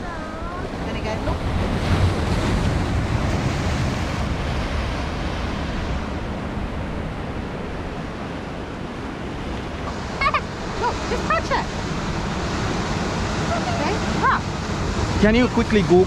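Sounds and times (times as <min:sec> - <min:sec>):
surf washing over rocks: 0:00.0 - 0:16.0.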